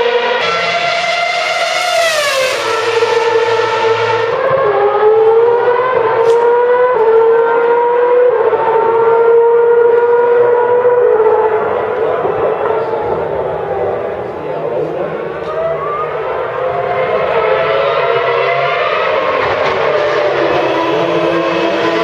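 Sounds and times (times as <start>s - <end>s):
high whine of racing engines: 0.0s - 22.0s
racing car engine passing: 0.0s - 22.0s.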